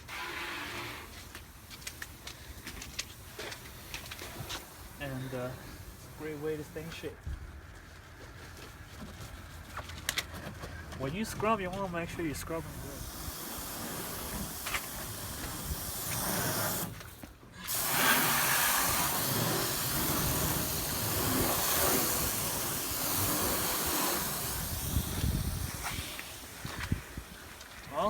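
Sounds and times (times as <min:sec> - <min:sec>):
water spraying from a hose: 0:00.0 - 0:07.2, 0:11.5 - 0:28.0.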